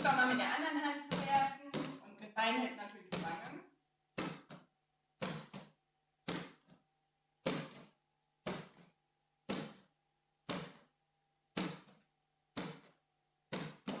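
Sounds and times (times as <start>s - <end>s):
ball bouncing on wooden floor: 0.0s - 6.8s, 7.4s - 10.9s, 11.5s - 14.0s.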